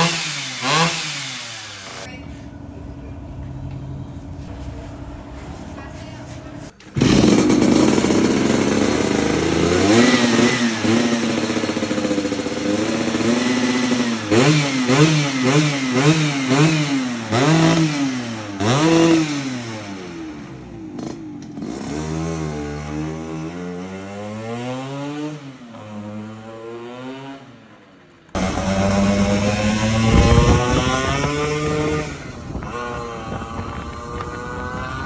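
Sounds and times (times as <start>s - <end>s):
motorcycle engine revving: 0.0s - 27.8s, 28.4s - 35.0s.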